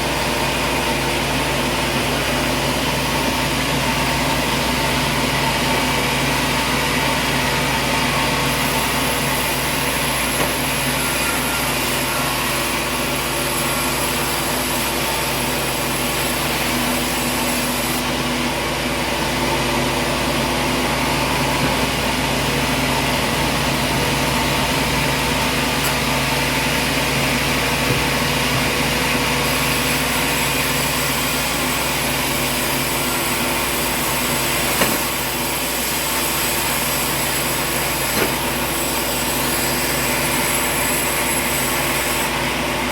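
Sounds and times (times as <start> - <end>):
machinery running: 0.0 - 39.5.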